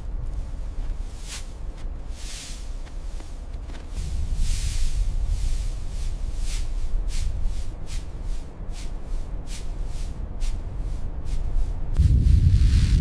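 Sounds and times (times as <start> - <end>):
low wind rumble: 0.0 - 13.0
footsteps crunching through snow: 0.1 - 10.6.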